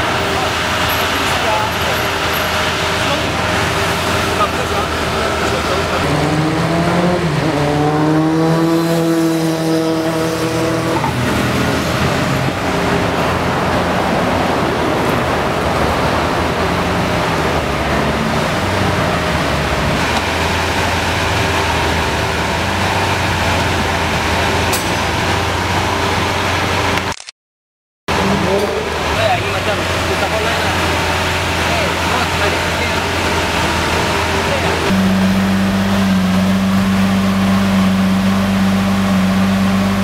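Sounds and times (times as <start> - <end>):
car engine revving: 0.0 - 27.1, 28.1 - 40.0
sports car engines running: 0.0 - 27.1, 28.1 - 40.0.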